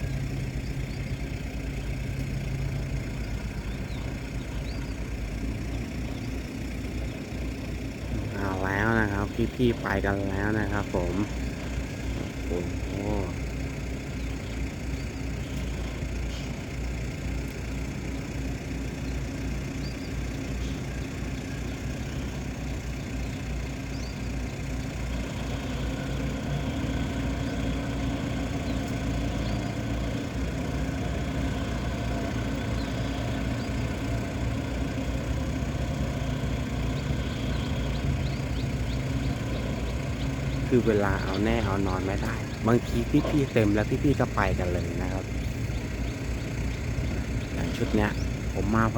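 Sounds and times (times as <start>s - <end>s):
tugboat diesel engine: 0.0s - 48.9s.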